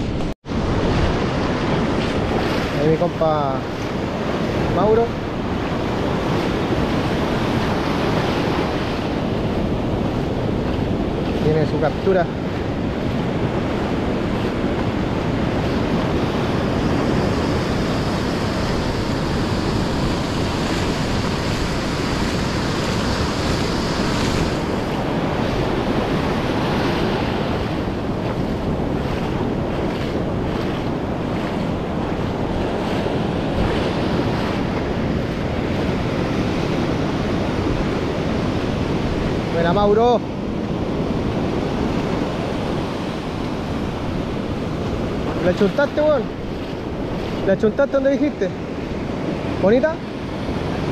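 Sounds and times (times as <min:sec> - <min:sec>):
surf washing onto beach: 0:00.0 - 0:50.9
wind buffeting microphone: 0:00.0 - 0:50.9.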